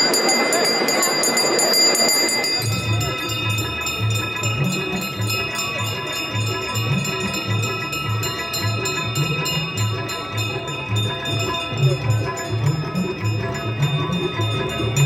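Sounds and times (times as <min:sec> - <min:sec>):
brass bells ringing rapidly: 0:00.0 - 0:15.0.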